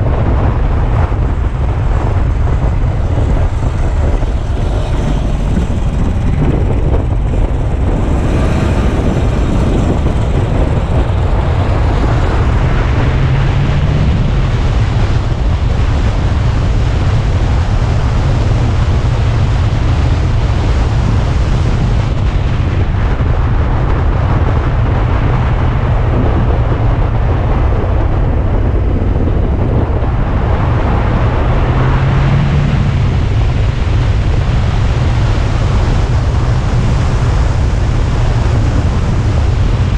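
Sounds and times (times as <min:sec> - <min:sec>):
car engine: 0:00.0 - 0:39.9
low hum: 0:00.0 - 0:39.9
wind rumble on microphone: 0:00.0 - 0:39.9.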